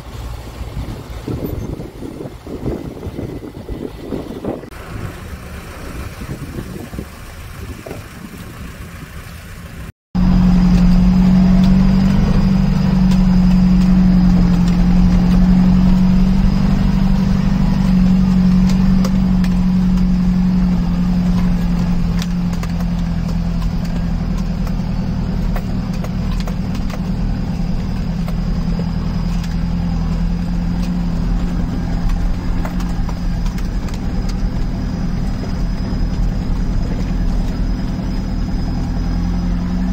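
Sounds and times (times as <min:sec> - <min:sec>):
outdoor noise: 0:00.0 - 0:39.9
vehicle engine drone inside cabin: 0:00.0 - 0:39.9.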